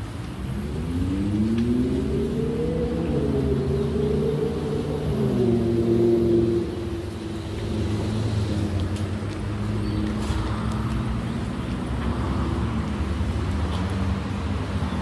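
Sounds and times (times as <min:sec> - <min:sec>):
road traffic engine hum: 0:00.0 - 0:15.0.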